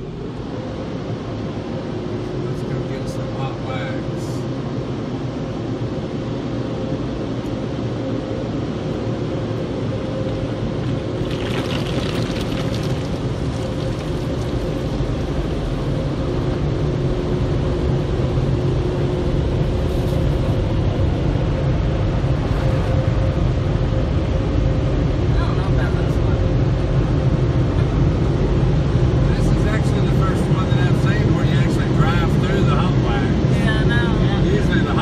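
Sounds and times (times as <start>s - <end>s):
car wash machinery rumble: 0.0s - 35.0s
faint hum: 0.0s - 35.0s.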